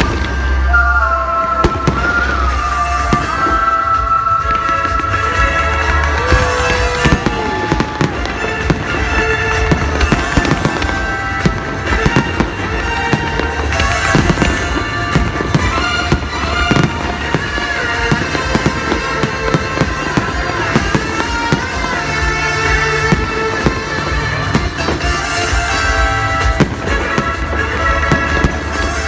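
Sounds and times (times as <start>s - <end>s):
fireworks bangs and crackles: 0.0s - 29.0s
loud music playing: 0.0s - 29.0s.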